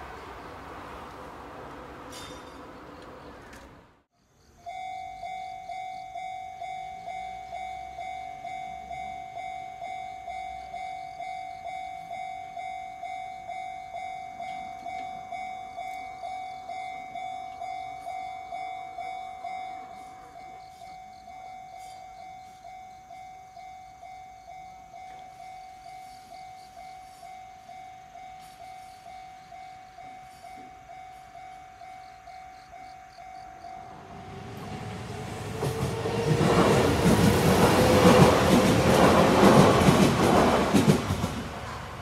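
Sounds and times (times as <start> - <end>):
passing train: 0.0 - 42.0
level-crossing warning bell: 4.6 - 41.8.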